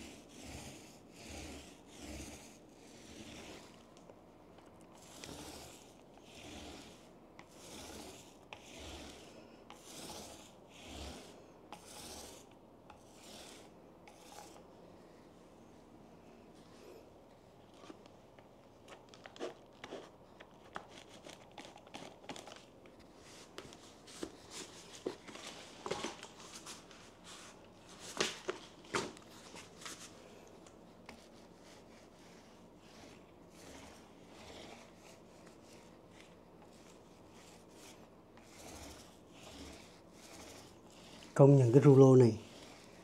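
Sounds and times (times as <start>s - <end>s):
paint roller rubbing: 0.0s - 3.9s, 4.9s - 14.6s, 18.9s - 43.0s.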